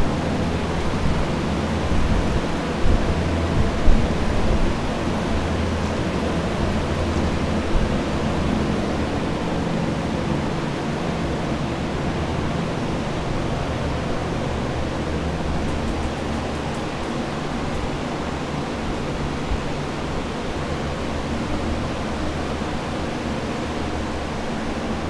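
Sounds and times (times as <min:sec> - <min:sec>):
rushing fan noise: 0:00.0 - 0:25.0.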